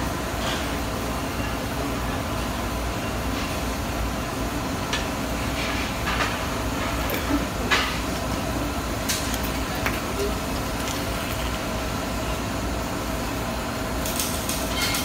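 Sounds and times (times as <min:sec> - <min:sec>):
welding shop noise: 0:00.0 - 0:15.0.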